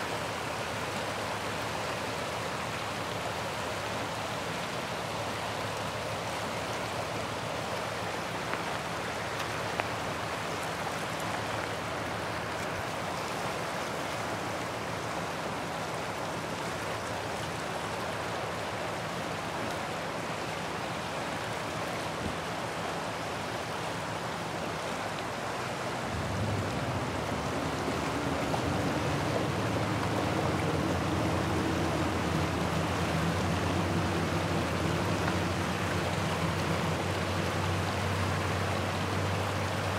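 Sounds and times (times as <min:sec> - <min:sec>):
river water rushing over riffles: 0:00.0 - 0:39.9.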